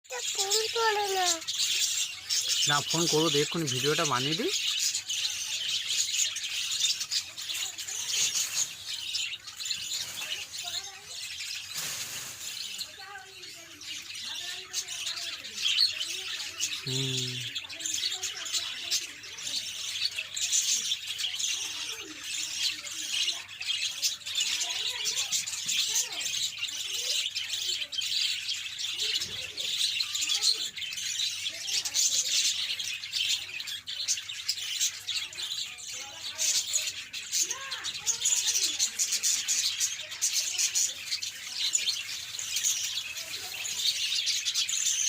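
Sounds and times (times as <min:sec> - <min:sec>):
parrots chattering and squawking: 0:00.1 - 0:45.0.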